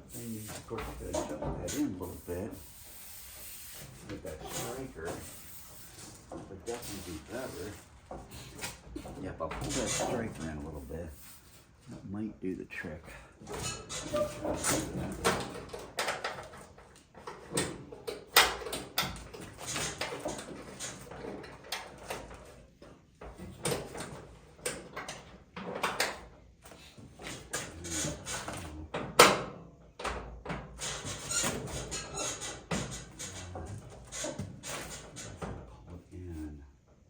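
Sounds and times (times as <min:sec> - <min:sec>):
metal knocks and clatter: 0:00.6 - 0:02.4, 0:03.9 - 0:10.7, 0:13.4 - 0:35.8.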